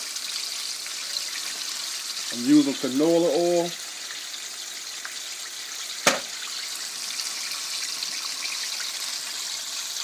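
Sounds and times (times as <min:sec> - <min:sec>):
chicken frying in oil: 0:00.0 - 0:10.0.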